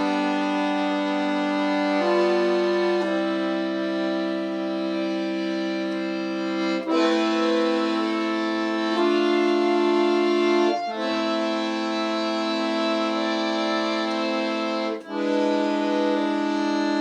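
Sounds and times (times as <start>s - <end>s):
accordion playing chords: 0.0s - 17.0s.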